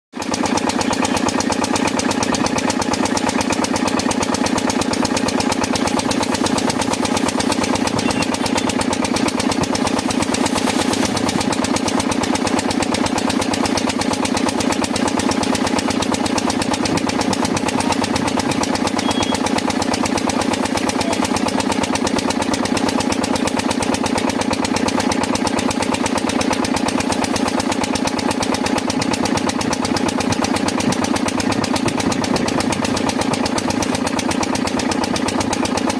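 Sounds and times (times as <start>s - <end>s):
washing machine running: 0.2s - 35.9s.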